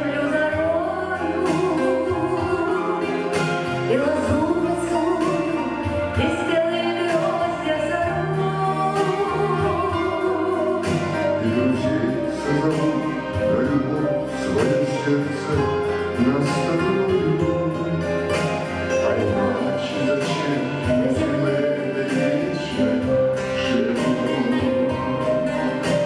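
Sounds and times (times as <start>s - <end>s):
person singing slow melody: 0.0s - 26.0s
sustained instrumental accompaniment: 0.0s - 26.0s.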